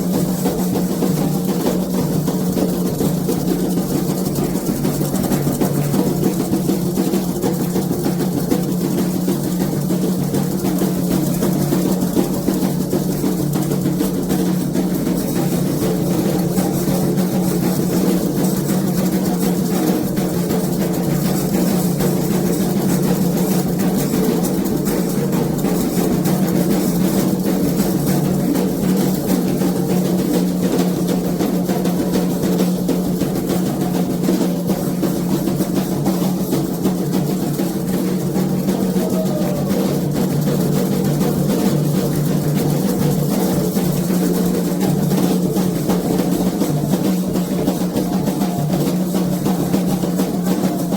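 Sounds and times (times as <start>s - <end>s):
hand drums playing rhythm: 0.0s - 50.9s.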